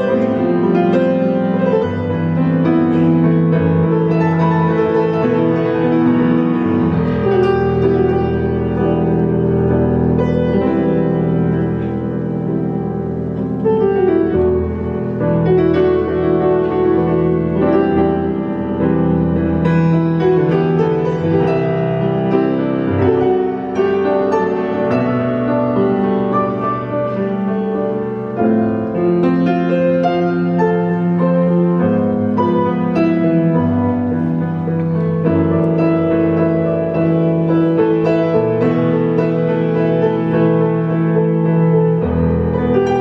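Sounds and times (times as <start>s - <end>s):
grand piano improvisation: 0.0s - 43.0s.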